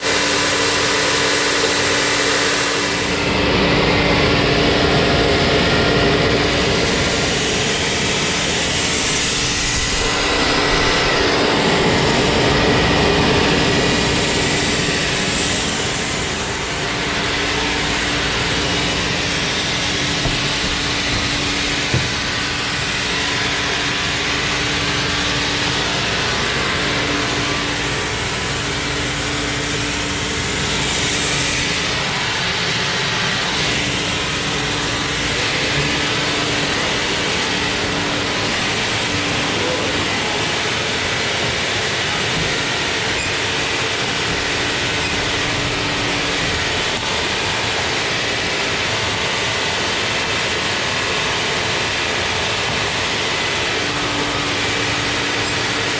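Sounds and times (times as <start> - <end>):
sawmill machinery running: 0.0 - 55.9
steady machine hum: 0.0 - 55.9.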